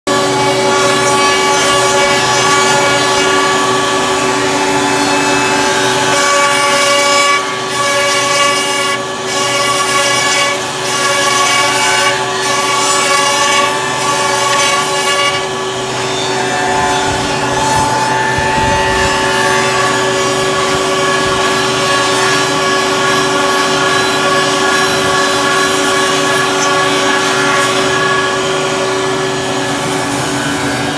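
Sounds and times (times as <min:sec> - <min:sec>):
wood router spindles whining: 0:00.1 - 0:30.9.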